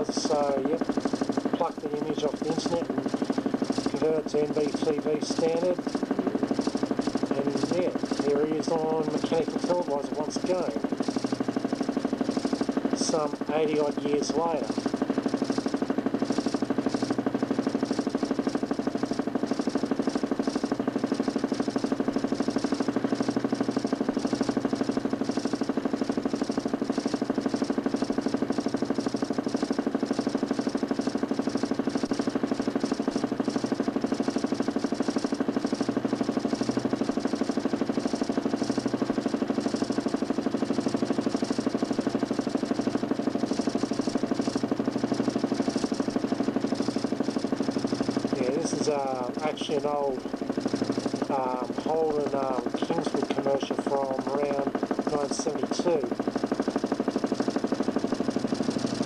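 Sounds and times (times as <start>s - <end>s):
motor spinning disc pulsing drone: 0.0s - 59.0s.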